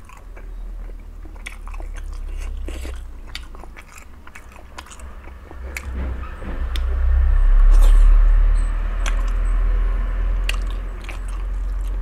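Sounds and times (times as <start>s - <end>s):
chewing and biting dumpling: 0.0s - 7.0s, 7.6s - 12.0s.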